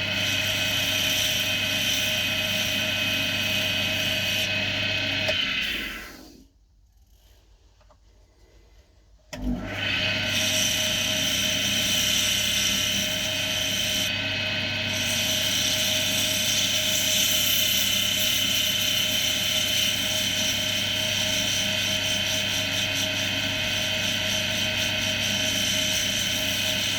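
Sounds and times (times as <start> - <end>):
lathe motor whining: 0.0 - 6.4, 9.4 - 26.9.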